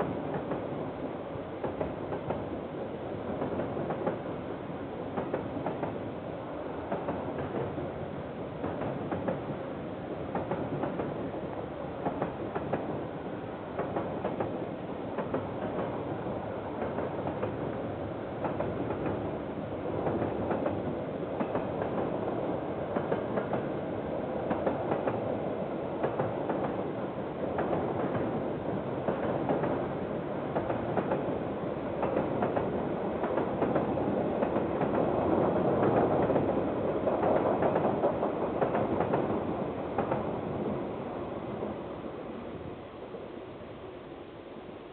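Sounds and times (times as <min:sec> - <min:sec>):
train wagons rolling past: 0:00.0 - 0:44.0.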